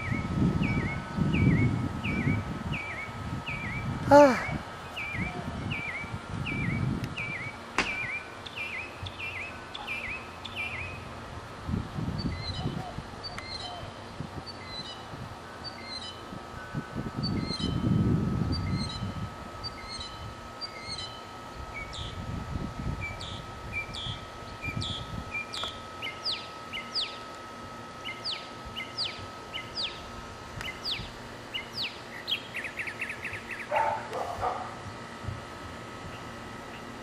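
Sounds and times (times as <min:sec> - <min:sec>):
birds singing: 0:00.0 - 0:11.2, 0:12.1 - 0:27.3, 0:27.9 - 0:35.1, 0:36.0 - 0:37.0.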